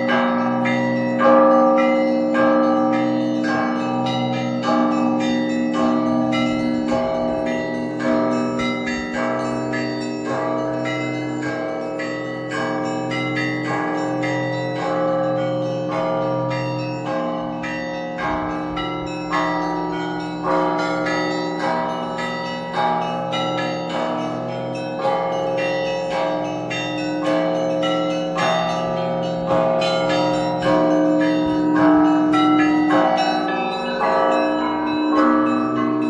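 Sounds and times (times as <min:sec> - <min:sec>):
hum of deep bells: 0:00.0 - 0:36.0.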